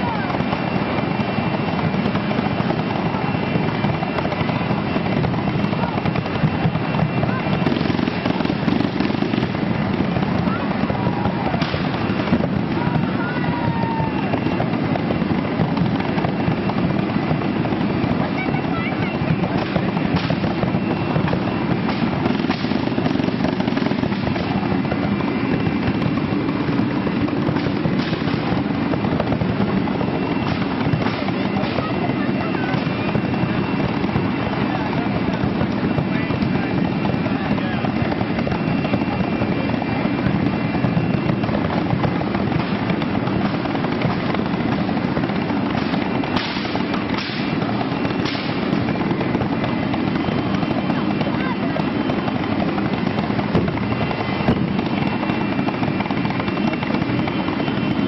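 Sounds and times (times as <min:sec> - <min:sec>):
fire crackles and pops: 0:00.0 - 0:58.0
flame jets roaring: 0:00.0 - 0:58.0
steady background din: 0:00.0 - 0:58.0.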